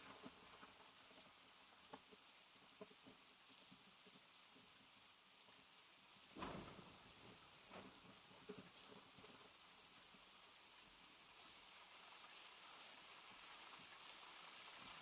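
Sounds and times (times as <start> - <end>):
faint rain: 0.0 - 15.0
raindrops tapping on a surface: 0.0 - 15.0.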